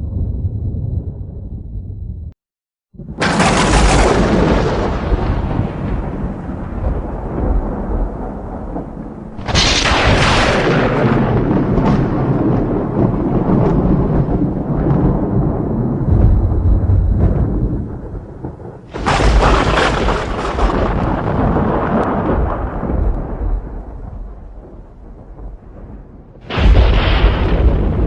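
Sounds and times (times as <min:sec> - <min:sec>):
thunder clap and rumble: 0:00.0 - 0:28.0.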